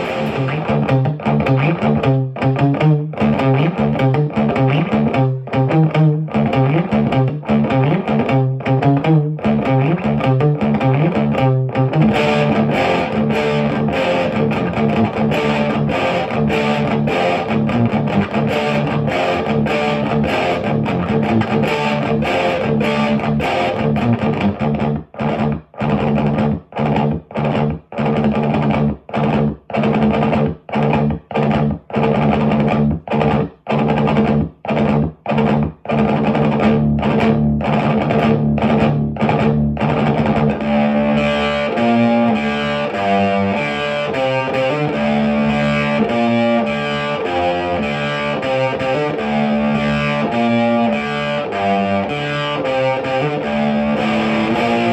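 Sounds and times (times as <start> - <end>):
electric guitar playing: 0.0 - 54.9.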